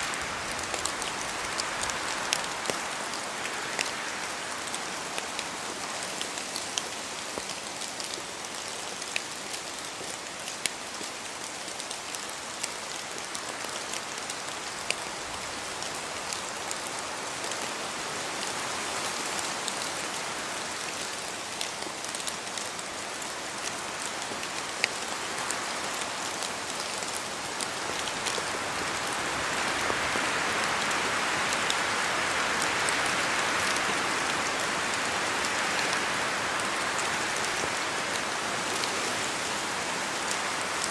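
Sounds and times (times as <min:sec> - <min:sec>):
rain patter in forest: 0:00.0 - 0:40.9.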